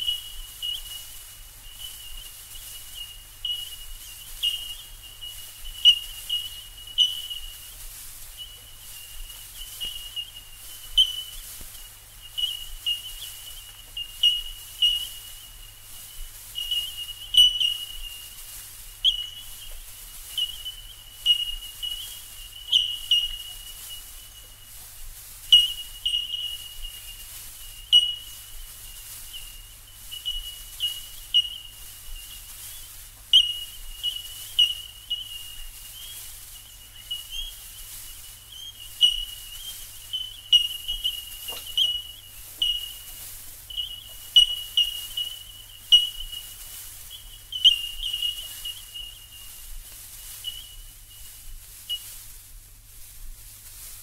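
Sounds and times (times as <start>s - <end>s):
birds with bell-like calls: 0.0s - 52.3s.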